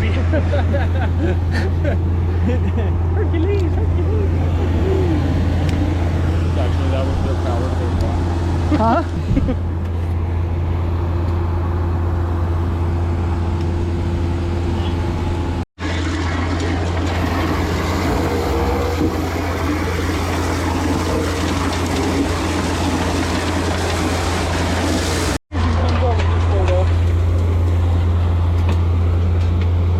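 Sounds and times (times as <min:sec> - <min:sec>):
machinery engine running: 0:00.0 - 0:29.9.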